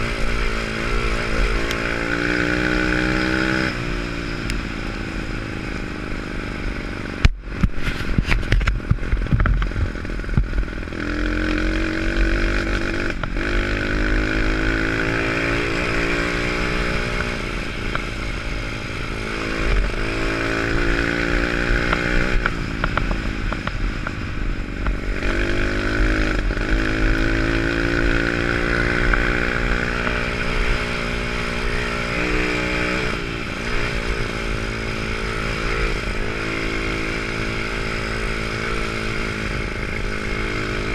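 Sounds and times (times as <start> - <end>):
pit bike engine revving: 0.0 - 5.6, 6.8 - 40.9.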